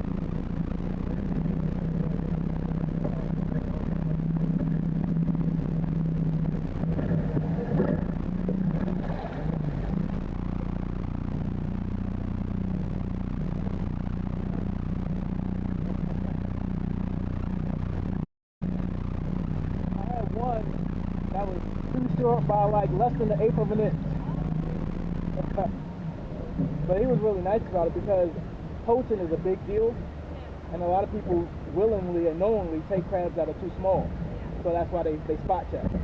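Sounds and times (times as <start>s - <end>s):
motorboat engine droning: 0.0s - 36.0s.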